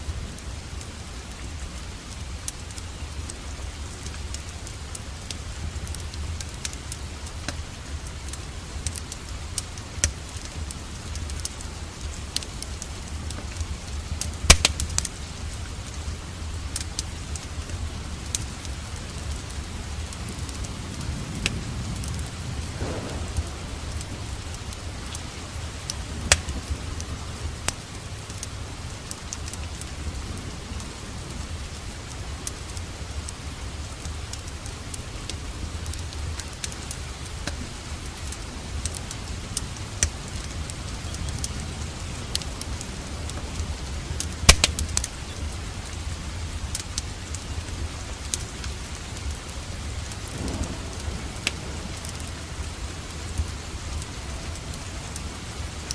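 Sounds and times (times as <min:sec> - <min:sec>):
steady rain: 0:00.0 - 0:55.9
wood fire crackling: 0:00.0 - 0:55.9.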